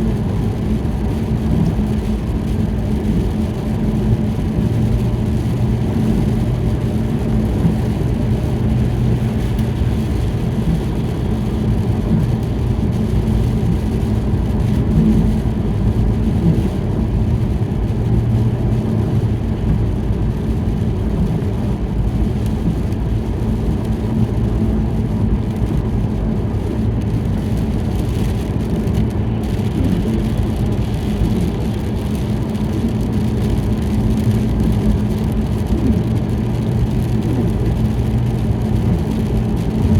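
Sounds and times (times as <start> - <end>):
car cabin road and engine noise: 0.0 - 39.9
tires on a wet road: 0.0 - 39.9.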